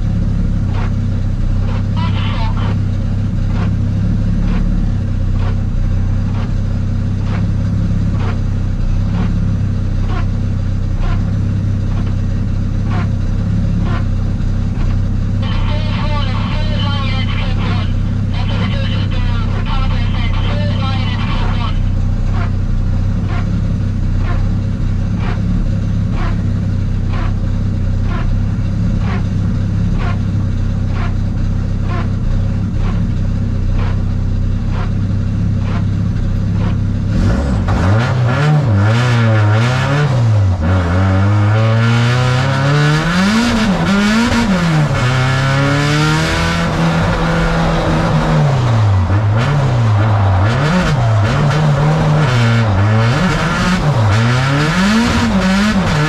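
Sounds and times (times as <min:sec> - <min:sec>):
car engine idling: 0:00.0 - 0:56.0
car engine revving hard: 0:00.0 - 0:56.0.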